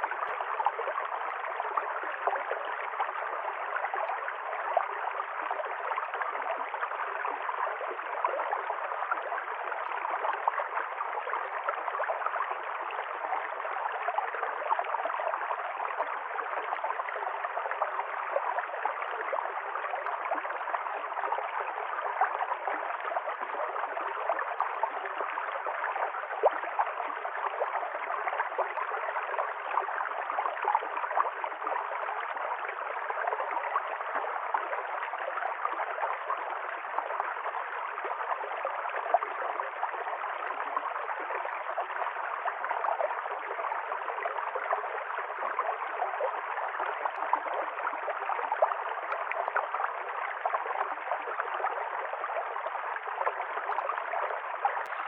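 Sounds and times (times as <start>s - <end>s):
stream flowing and gurgling: 0.0s - 55.0s.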